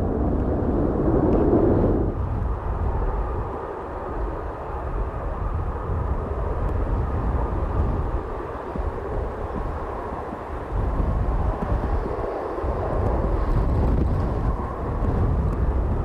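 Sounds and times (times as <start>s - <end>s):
aircraft engine rushing: 0.0s - 16.0s
wind rumbling on microphone: 0.0s - 16.0s.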